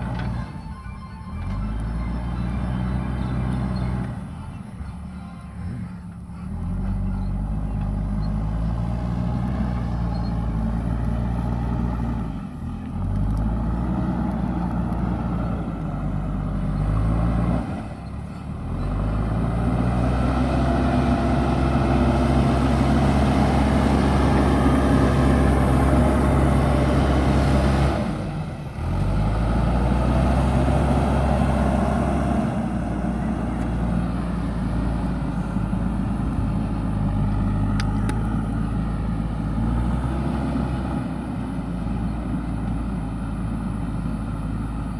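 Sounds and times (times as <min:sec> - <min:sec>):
backhoe diesel engine running: 0:00.0 - 0:44.9.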